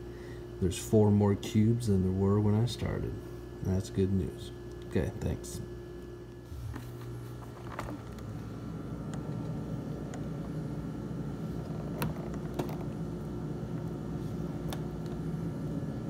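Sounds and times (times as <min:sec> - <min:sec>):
refrigerator humming: 0:00.0 - 0:16.0.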